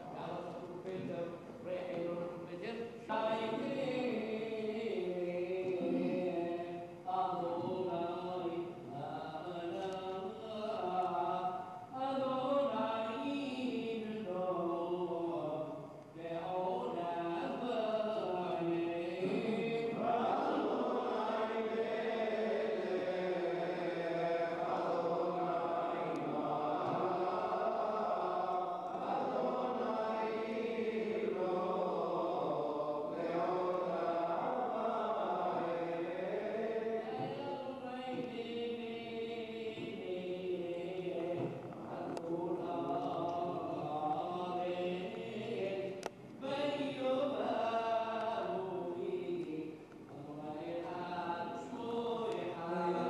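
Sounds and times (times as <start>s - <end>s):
congregation chanting prayers: 0.0s - 53.0s.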